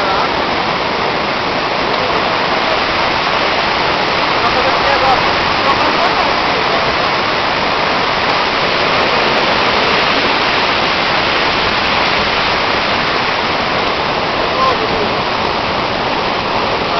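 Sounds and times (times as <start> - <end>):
waterfall crashing: 0.0 - 16.9.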